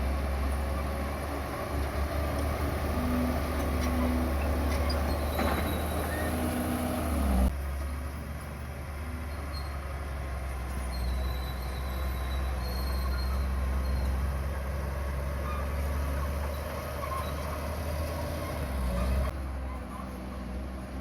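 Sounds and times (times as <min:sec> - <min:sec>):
bulldozer diesel engine drone: 0:00.0 - 0:21.0.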